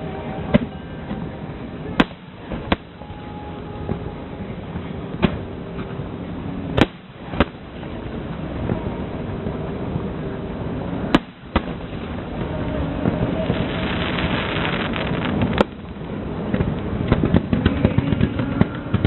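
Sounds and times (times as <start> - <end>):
background noise: 0.0 - 19.0
fireworks bursting with bangs: 0.4 - 9.5, 10.6 - 19.0.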